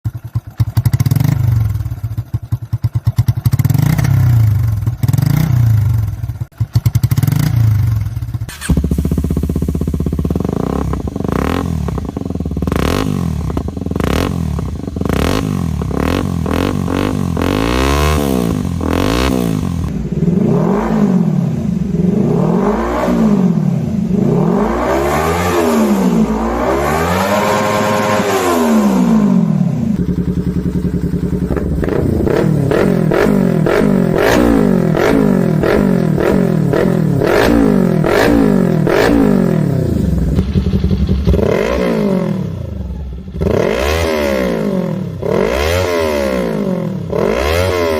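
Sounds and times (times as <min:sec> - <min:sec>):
motorcycle engines revving: 0:00.1 - 0:47.9.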